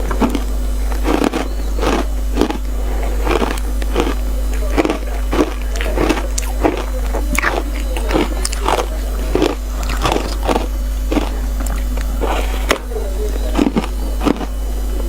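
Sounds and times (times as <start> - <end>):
ice crunching between teeth: 0.0 - 15.0.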